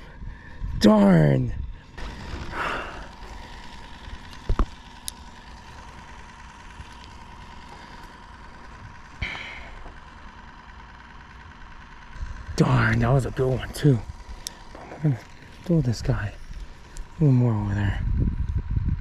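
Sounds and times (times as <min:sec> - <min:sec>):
faint mechanical hum with whine: 0:00.0 - 0:19.0.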